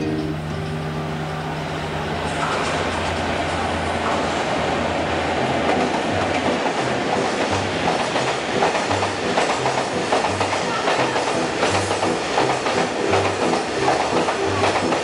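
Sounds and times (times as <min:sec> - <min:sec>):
diesel locomotive engine hum: 0:00.0 - 0:15.0
train wheels clacking over rails: 0:00.2 - 0:15.0.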